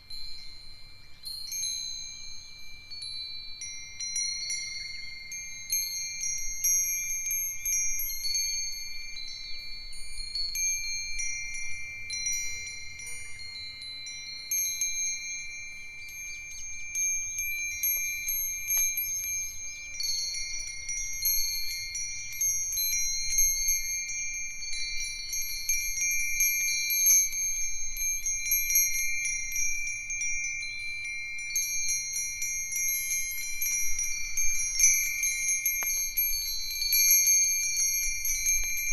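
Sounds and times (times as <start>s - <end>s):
metal wind chimes ringing: 0.0s - 38.9s.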